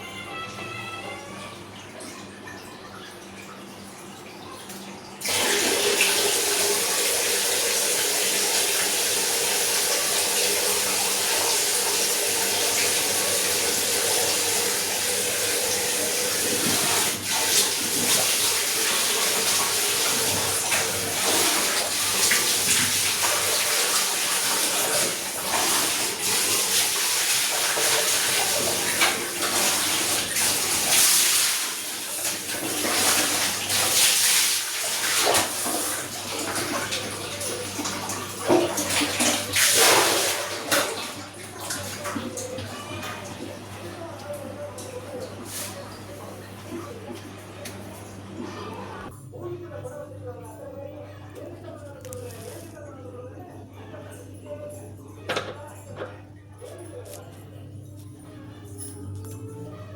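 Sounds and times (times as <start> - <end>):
water rushing into washing machine: 0.0 - 49.1.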